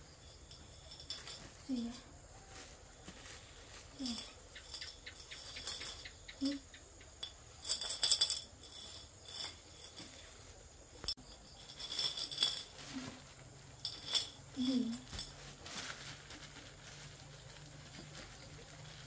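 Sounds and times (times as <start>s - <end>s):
small hard objects clinking: 0.0s - 19.0s.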